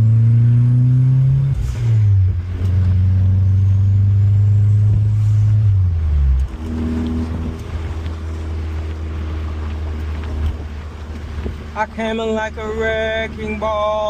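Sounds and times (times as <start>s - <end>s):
car engine humming while driving: 0.0s - 14.0s.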